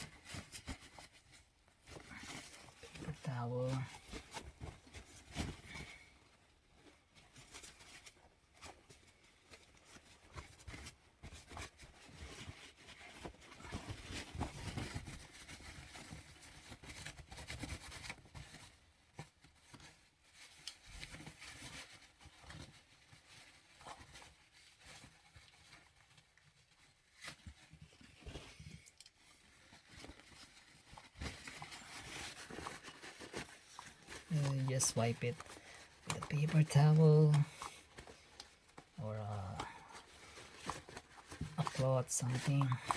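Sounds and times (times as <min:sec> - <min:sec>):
paper towel rustling on plastic: 0:00.0 - 0:42.9.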